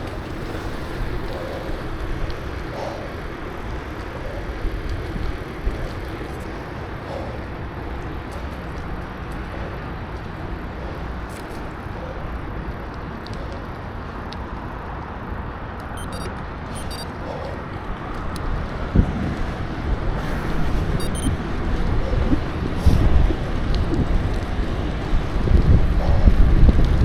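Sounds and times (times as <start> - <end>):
bicycle road noise: 0.0 - 27.0
motor traffic: 0.0 - 27.0
rushing wind: 0.0 - 27.0.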